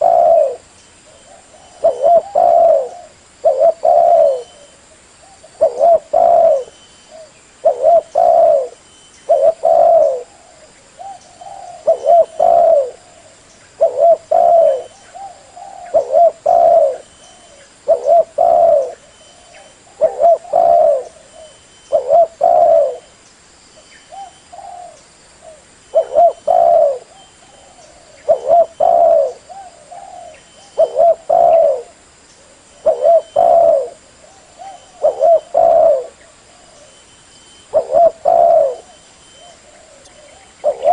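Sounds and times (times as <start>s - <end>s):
dove cooing: 0.0s - 23.1s, 24.1s - 40.9s.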